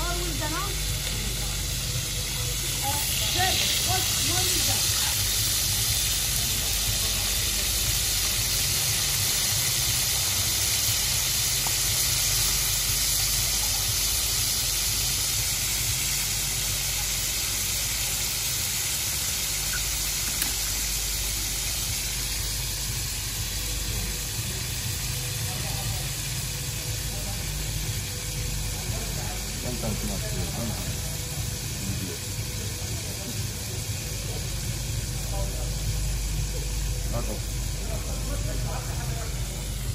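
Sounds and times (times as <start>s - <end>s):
steak sizzling on hot plates: 0.0s - 39.9s.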